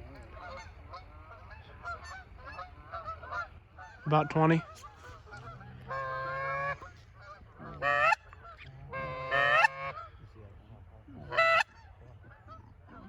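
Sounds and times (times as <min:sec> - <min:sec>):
goose honking: 0:00.0 - 0:10.2, 0:11.2 - 0:13.0.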